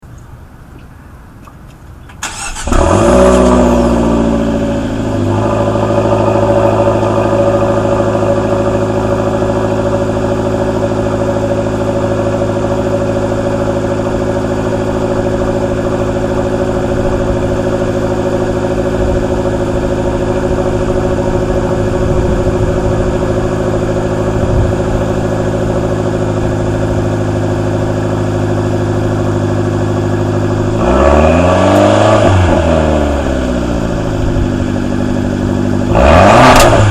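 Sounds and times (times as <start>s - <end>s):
car engine idling and revving: 1.4s - 36.9s.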